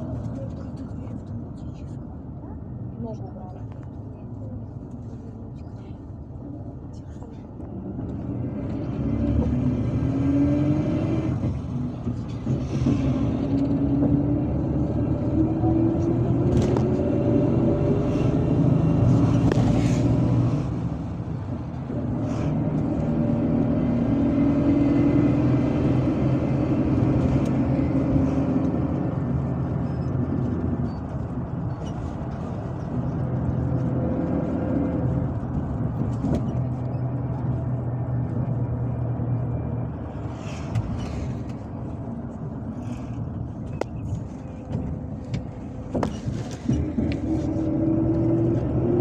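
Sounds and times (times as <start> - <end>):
bus engine accelerating: 0.0 - 49.0
road and tyre noise: 0.0 - 49.0.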